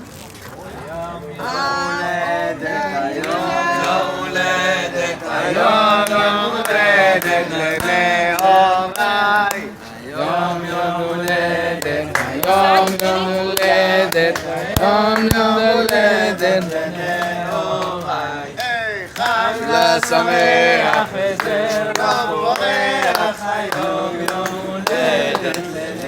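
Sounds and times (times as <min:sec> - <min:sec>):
voices singing chant-like: 0:00.6 - 0:26.0.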